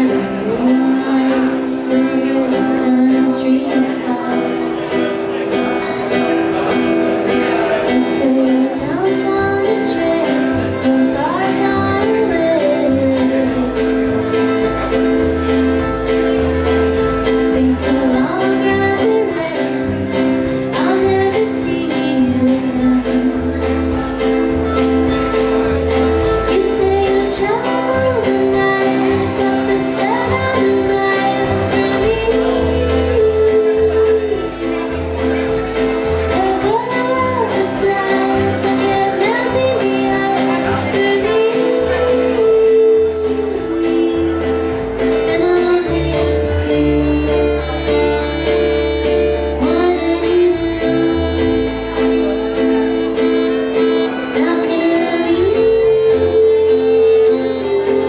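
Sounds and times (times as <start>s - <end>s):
woman singing: 0.0s - 5.4s, 7.5s - 35.4s, 36.3s - 58.0s
accordion: 0.0s - 58.0s
acoustic guitar: 0.0s - 58.0s
small plucked stringed instrument: 0.0s - 58.0s
upright bass: 0.0s - 58.0s.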